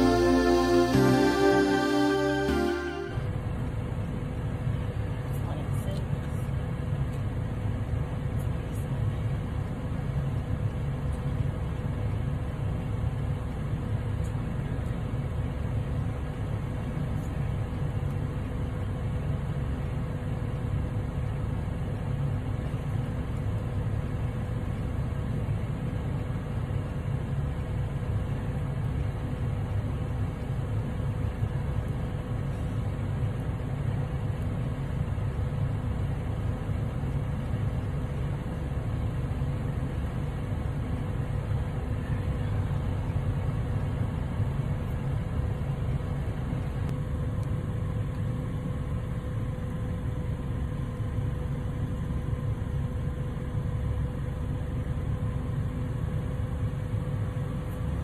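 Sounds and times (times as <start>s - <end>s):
faint steady whine: 0.0s - 58.0s.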